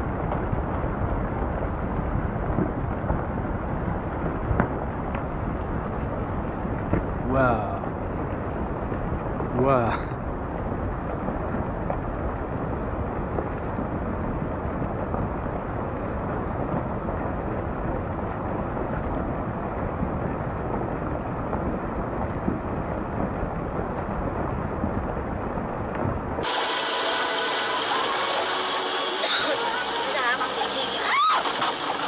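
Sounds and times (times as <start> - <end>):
rockslide rumble: 0.0 - 32.0.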